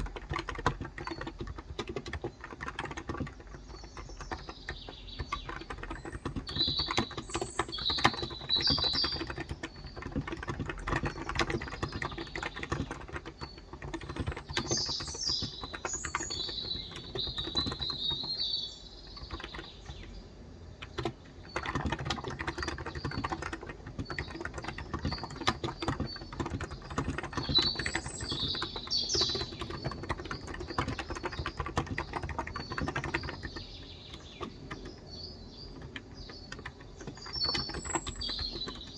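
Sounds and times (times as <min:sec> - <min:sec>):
birds chirping: 0:00.0 - 0:38.9
typing on a keyboard: 0:00.0 - 0:38.9.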